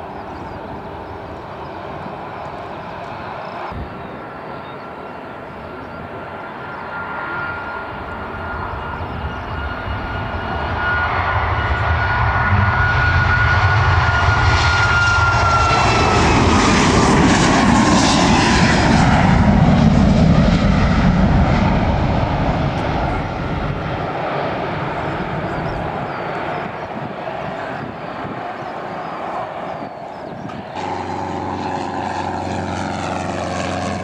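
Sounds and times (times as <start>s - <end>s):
high jet whine: 0.0s - 34.0s
jet engine roar: 0.0s - 34.0s.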